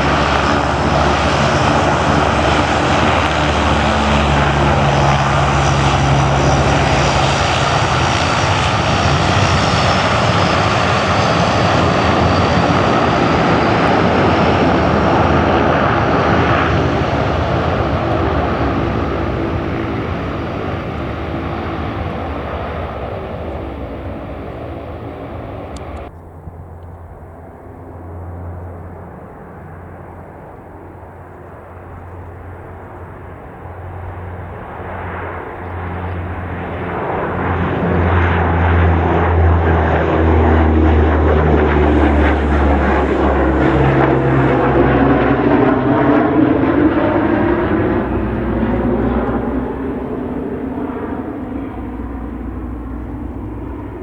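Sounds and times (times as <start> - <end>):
cargo aircraft engines: 0.0 - 54.0.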